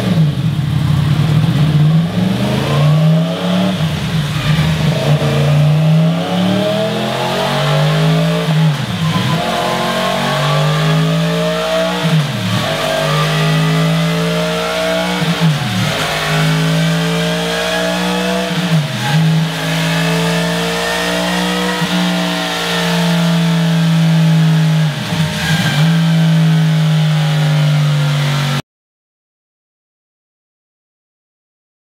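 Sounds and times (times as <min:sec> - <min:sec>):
motorcycle engine exhaust on dyno: 0:00.0 - 0:28.6.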